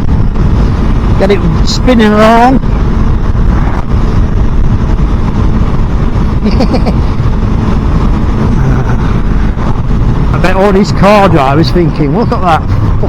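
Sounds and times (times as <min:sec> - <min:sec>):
motorcycle engine: 0:00.0 - 0:13.0
wind buffeting microphone: 0:00.0 - 0:13.0.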